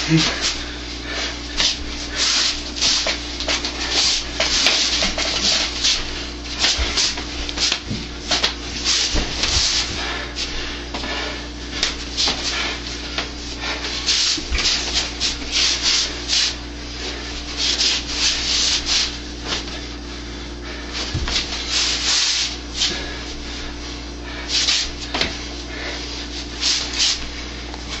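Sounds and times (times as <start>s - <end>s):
steady low hum: 0.0s - 28.0s
sleeves rubbing swishes: 1.5s - 19.9s, 21.0s - 28.0s.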